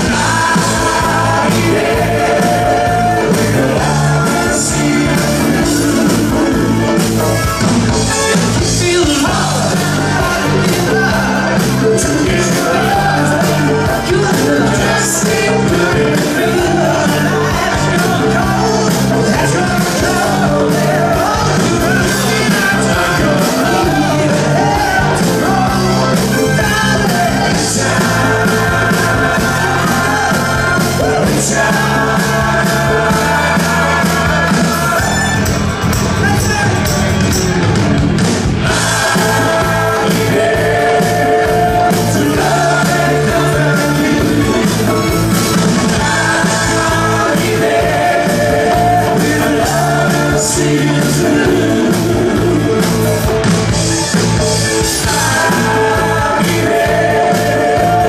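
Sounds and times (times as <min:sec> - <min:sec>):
man singing: 0:00.0 - 0:35.5, 0:38.6 - 0:53.1
live rock band playing: 0:00.0 - 0:58.0.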